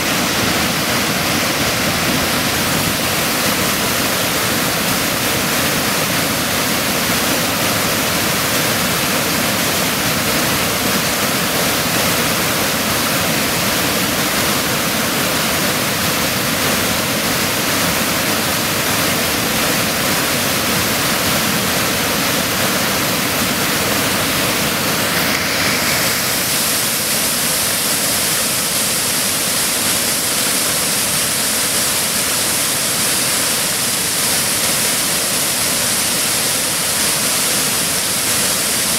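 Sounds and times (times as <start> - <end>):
water pouring over waterfall: 0.0 - 38.9.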